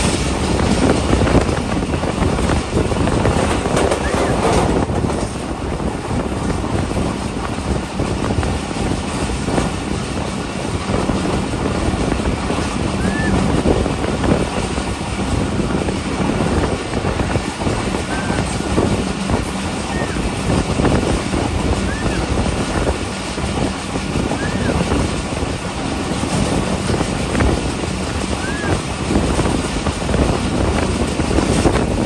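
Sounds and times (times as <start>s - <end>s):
train wheels clattering on rails: 0.0s - 32.0s
wind rushing over microphone: 0.0s - 32.0s.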